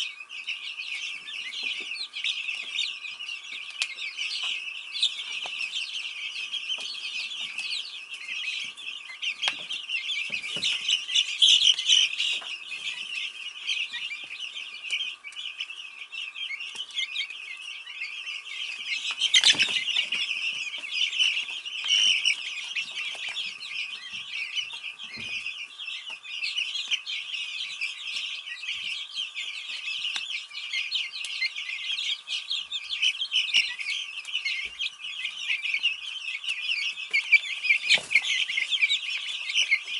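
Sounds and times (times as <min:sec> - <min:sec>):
chicks peeping and chirping: 0:00.0 - 0:39.9.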